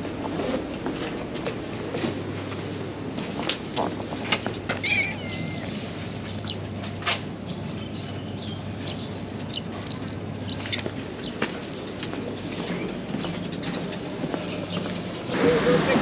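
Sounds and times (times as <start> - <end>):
low outdoor hum: 0.0 - 16.0.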